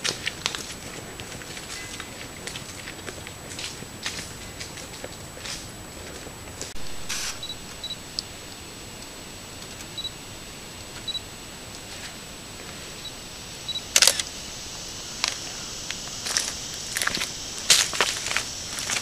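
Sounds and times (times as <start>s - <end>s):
microphone hiss with high whine: 0.0s - 19.0s.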